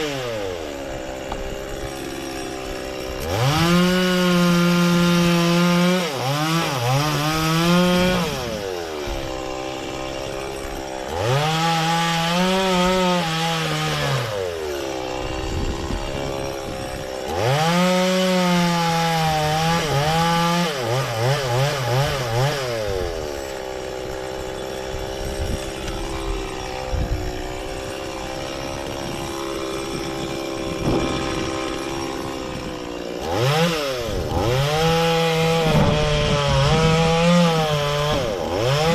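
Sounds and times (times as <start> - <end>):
chainsaw cutting wood: 0.0 - 38.9
chainsaw idling: 0.0 - 38.9.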